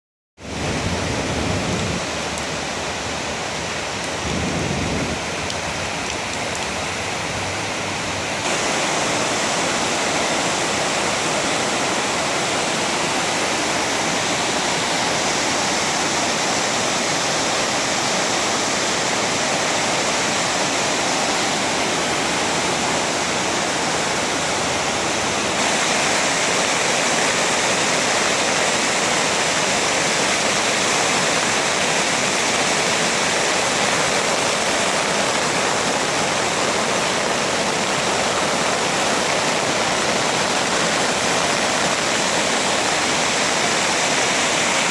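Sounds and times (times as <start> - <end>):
heavy rain pouring: 0.4 - 44.9.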